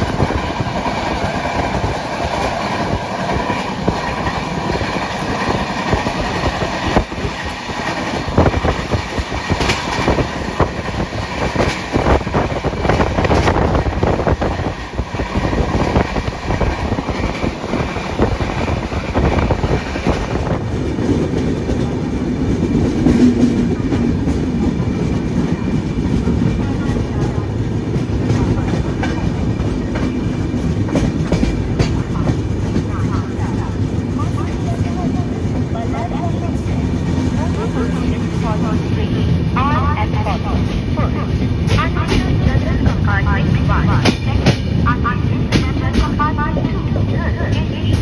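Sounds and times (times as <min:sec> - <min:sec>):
train rumbling on track: 0:00.0 - 0:48.0
wheels clacking over rail joints: 0:00.0 - 0:48.0.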